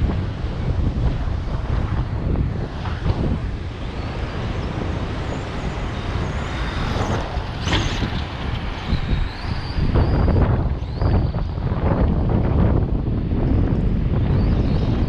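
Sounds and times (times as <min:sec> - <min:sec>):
wind buffeting microphone: 0:00.0 - 0:15.0
rc car motor whine: 0:00.6 - 0:12.8.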